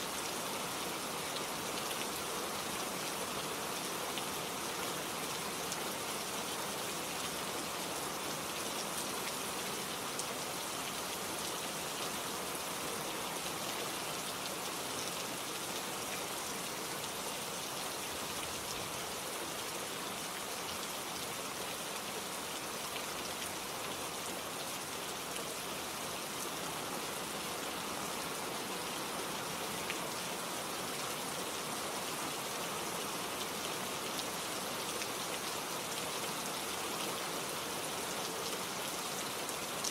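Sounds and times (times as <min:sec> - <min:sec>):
rain pattering on a surface: 0:00.1 - 0:39.9.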